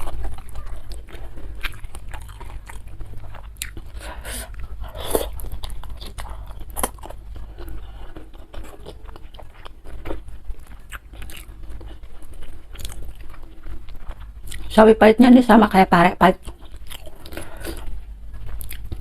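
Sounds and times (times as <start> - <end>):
chewing crunchy food: 0.0 - 14.8, 16.4 - 19.0.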